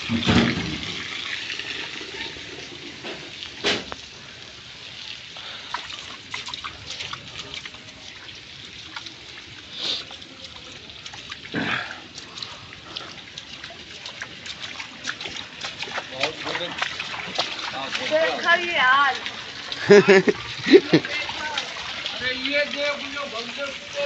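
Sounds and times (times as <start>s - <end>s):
rain hiss: 0.0s - 13.4s, 17.7s - 24.0s.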